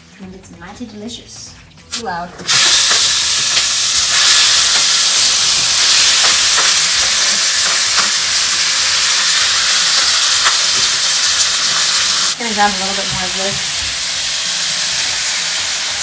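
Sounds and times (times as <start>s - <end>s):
chicken sizzling in frying pan: 2.5s - 16.0s.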